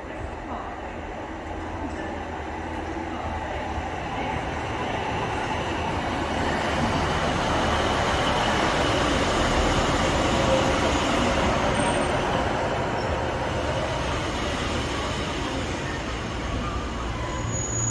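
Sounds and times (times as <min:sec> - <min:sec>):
diesel train engines: 0:00.0 - 0:17.9.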